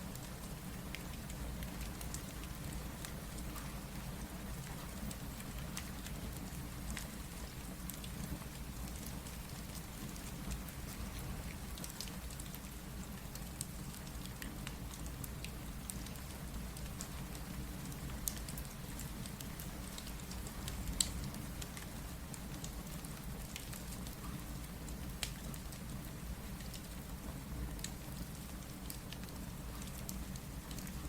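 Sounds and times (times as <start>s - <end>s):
steady rain: 0.0s - 31.0s
wood fire popping and crackling: 4.5s - 31.0s.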